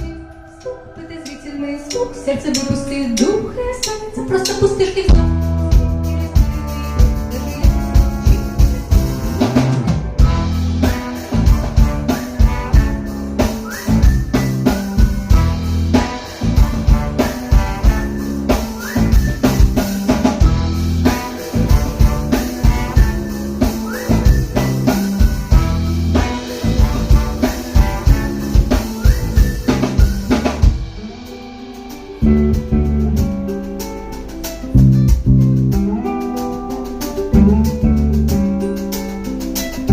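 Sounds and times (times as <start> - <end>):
band music: 0.0 - 39.9
drum kit beats: 0.0 - 39.9.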